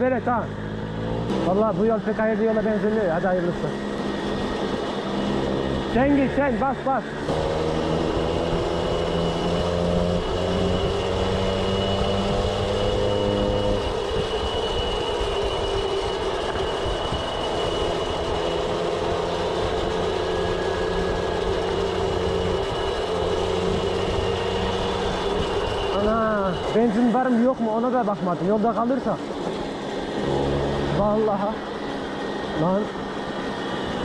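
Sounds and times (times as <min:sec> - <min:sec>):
moped two-stroke engine running: 0:00.0 - 0:34.0.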